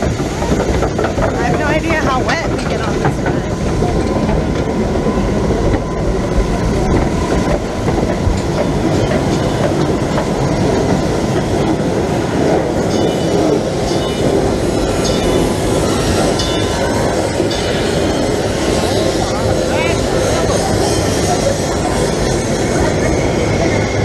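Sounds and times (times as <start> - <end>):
ride rattling rumble: 0.0 - 24.0.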